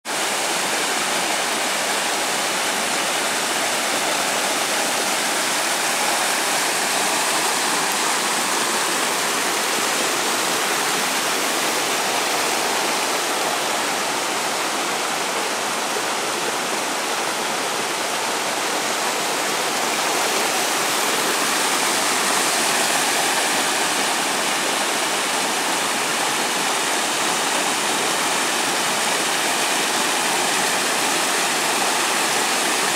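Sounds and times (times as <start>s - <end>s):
water rushing over rocks: 0.1s - 32.9s.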